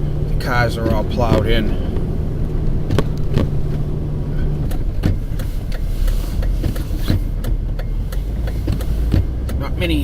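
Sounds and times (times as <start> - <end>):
car engine and road hum: 0.0 - 10.0
sharp clicks and knocks: 0.8 - 3.8, 4.6 - 9.7.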